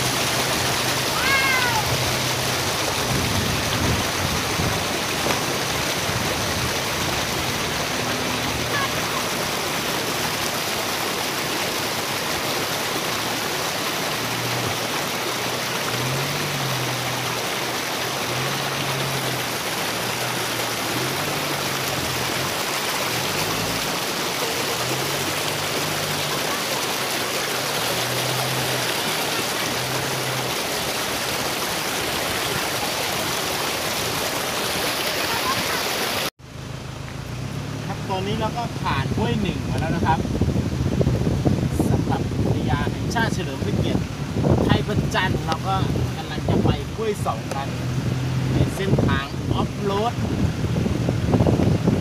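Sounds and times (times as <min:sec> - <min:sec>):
stream rushing over stones: 0:00.0 - 0:52.0.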